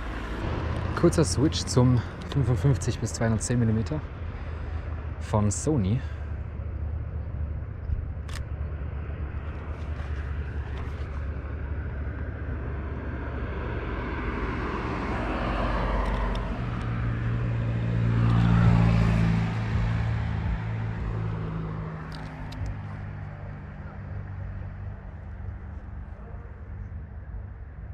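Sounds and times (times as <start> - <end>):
outdoor noise: 0.0 - 27.9
vehicle engine hum passing: 0.0 - 27.9.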